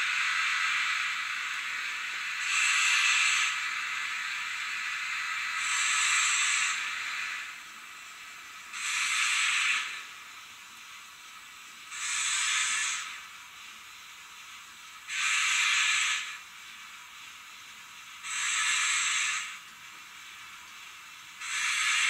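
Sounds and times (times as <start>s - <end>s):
background hiss: 0.0s - 22.0s
steam hiss bursts: 0.0s - 22.0s.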